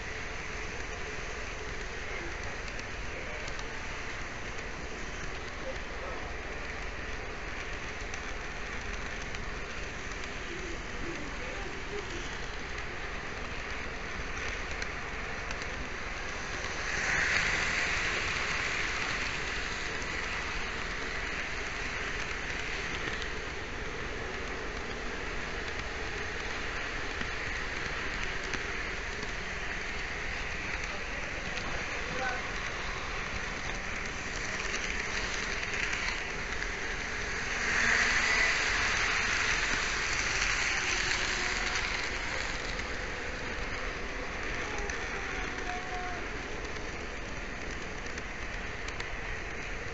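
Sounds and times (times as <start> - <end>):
model train rolling on track: 0.0 - 49.9.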